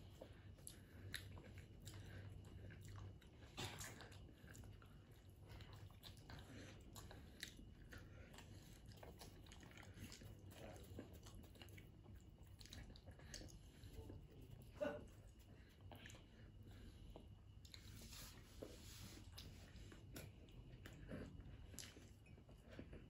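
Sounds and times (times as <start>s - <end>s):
chewing and mouth noises: 0.0s - 23.0s
low steady hum: 0.0s - 23.0s.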